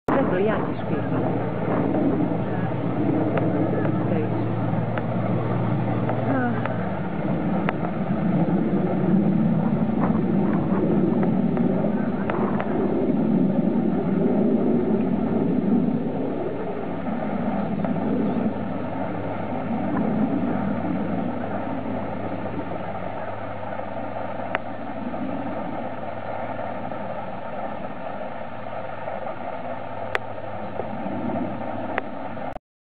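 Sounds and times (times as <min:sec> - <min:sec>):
bulldozer diesel engines rumbling: 0:00.1 - 0:32.5.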